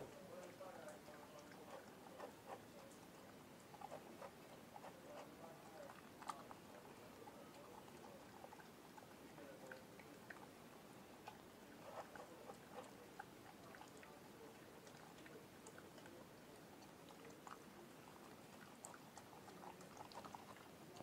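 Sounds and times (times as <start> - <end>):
dog chewing and licking: 0.0 - 21.0.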